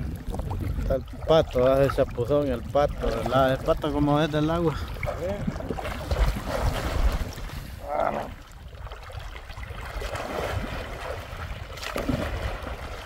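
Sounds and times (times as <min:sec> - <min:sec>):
water splashing from swimming: 0:00.0 - 0:13.0
wind rumble on microphone: 0:00.0 - 0:13.0.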